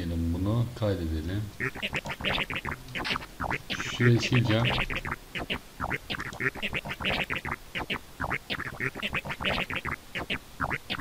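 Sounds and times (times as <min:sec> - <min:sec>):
turntable scratch effect: 0:01.6 - 0:11.0.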